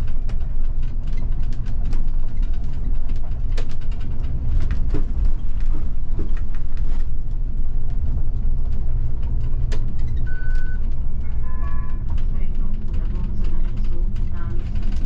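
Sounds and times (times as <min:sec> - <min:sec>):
bus engine rumble: 0:00.0 - 0:15.0
rattles and clicks: 0:00.0 - 0:15.0.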